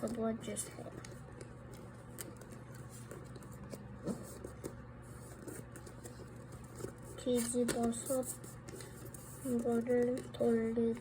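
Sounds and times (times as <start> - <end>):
paper rustling and creasing: 0.0 - 11.0
steady low hum: 0.0 - 11.0.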